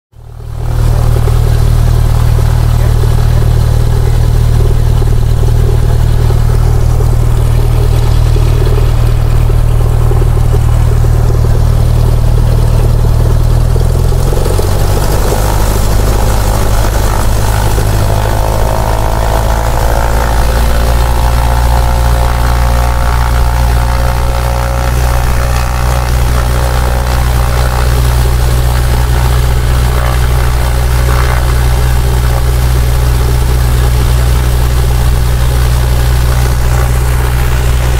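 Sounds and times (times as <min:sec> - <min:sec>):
propeller plane engine: 0:00.1 - 0:37.9
high steady whine: 0:00.2 - 0:37.9.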